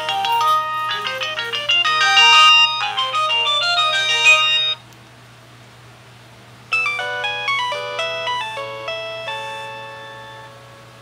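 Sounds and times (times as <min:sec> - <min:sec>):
phone ringtone melody: 0:00.0 - 0:04.8, 0:06.7 - 0:11.0
faint hiss and hum: 0:00.0 - 0:11.0.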